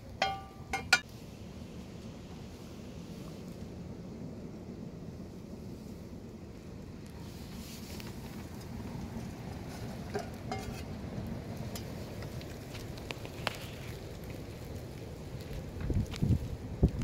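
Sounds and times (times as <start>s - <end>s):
steady low rumble: 0.0s - 17.0s
wood fire crackling in a stove: 0.0s - 17.0s.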